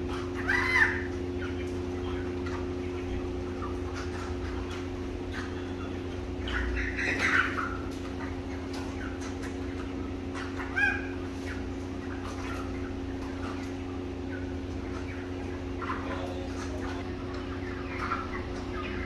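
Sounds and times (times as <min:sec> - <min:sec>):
chickens clucking and squawking: 0:00.0 - 0:19.0
steady mechanical hum: 0:00.0 - 0:19.0.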